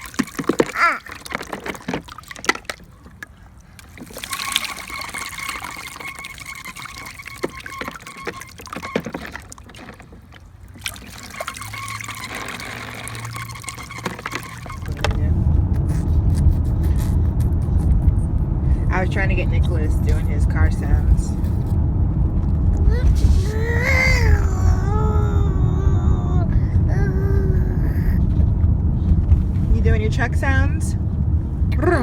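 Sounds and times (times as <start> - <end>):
water trickling and splashing: 0.0 - 32.0.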